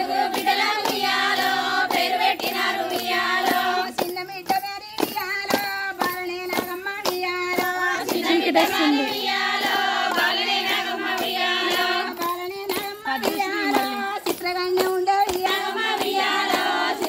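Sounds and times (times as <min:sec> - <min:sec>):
hands clapping in rhythm: 0:00.0 - 0:17.0
women singing folk song: 0:00.0 - 0:17.0.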